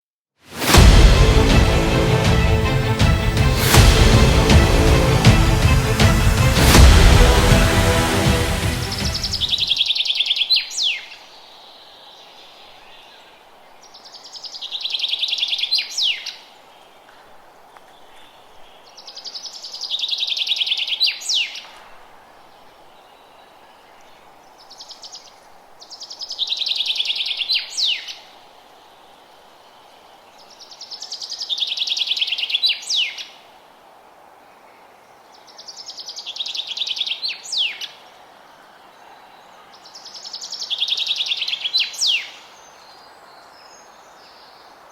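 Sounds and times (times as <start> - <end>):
faint steady hiss: 6.6 - 44.9.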